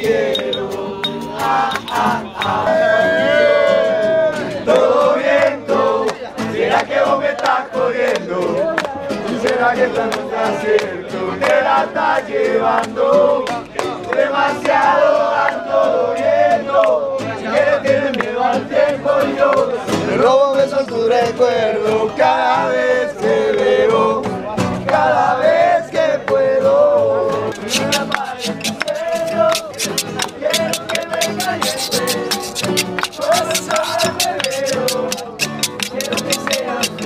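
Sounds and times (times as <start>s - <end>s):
men singing a chant: 0.0s - 37.0s
strummed acoustic guitars: 0.0s - 37.0s.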